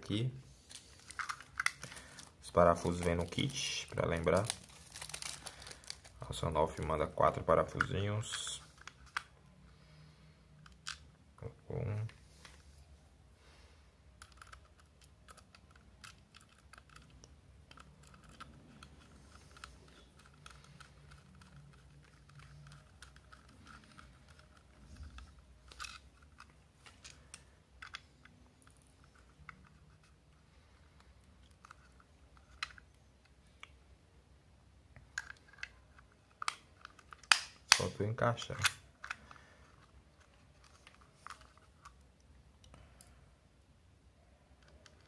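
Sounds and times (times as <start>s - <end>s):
plastic parts handled: 0.6s - 9.4s, 14.1s - 33.8s, 35.0s - 43.1s.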